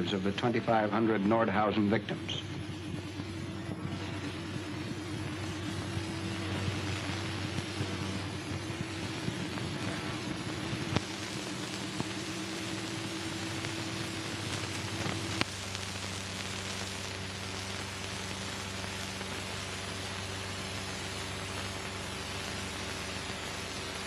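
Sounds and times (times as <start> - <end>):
film soundtrack hiss and hum: 0.0 - 24.0.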